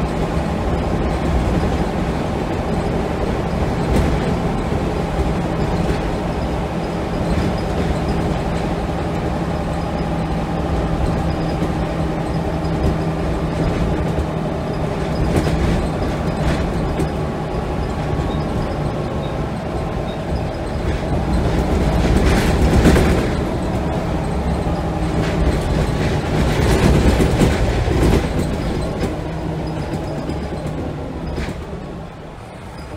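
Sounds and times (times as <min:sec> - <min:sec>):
bus body rattling: 0:00.0 - 0:32.9
bus diesel engine droning: 0:00.0 - 0:32.9.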